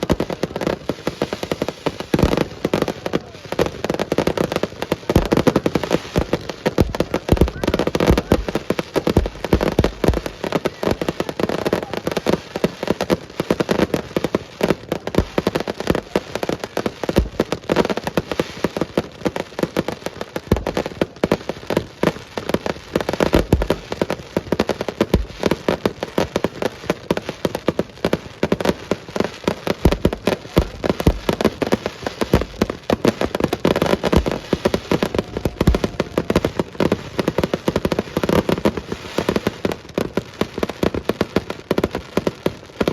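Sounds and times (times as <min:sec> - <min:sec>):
fireworks booming: 0:00.0 - 0:42.9
fireworks crackling: 0:00.0 - 0:42.9.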